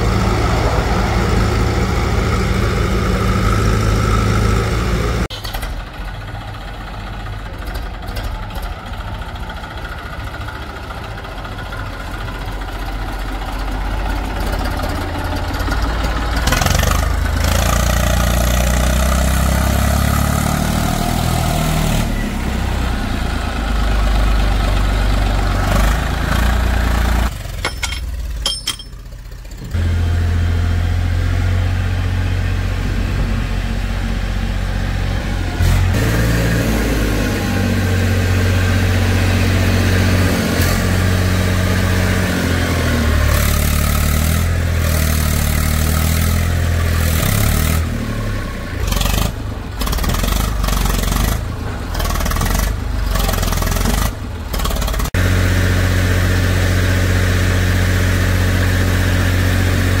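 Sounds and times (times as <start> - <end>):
diesel engine revving: 0.0 - 60.0.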